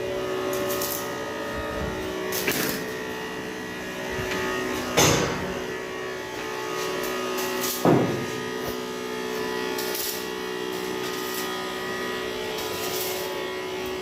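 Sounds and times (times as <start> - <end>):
electrical machine hum: 0.0 - 14.0.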